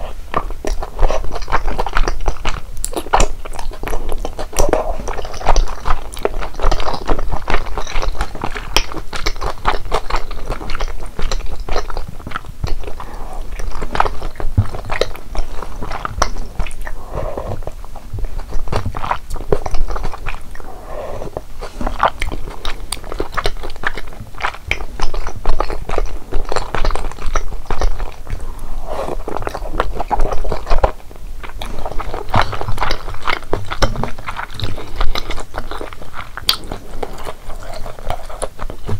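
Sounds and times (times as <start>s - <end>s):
person chewing and biting food: 0.0s - 38.9s.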